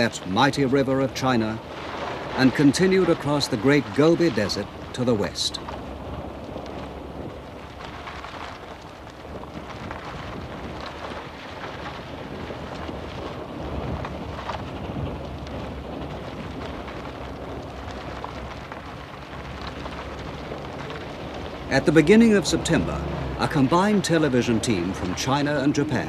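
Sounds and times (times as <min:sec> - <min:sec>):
steady rushing noise: 0:00.0 - 0:26.0
low rumble: 0:01.5 - 0:26.0.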